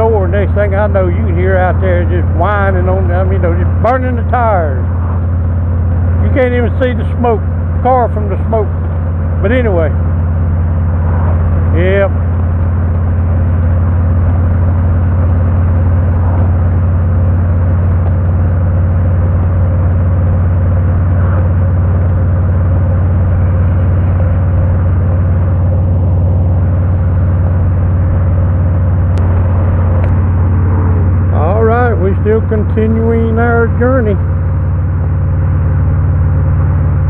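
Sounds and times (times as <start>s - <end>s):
motorcycle engine running steadily: 0.0s - 37.0s
road and wind noise: 0.0s - 37.0s.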